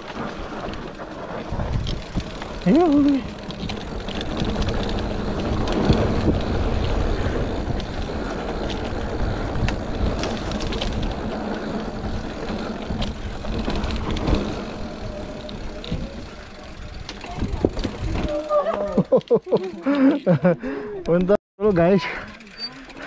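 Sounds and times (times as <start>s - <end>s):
bike rattling and knocking: 0.0s - 20.4s
wind and tyre rumble: 0.0s - 23.0s.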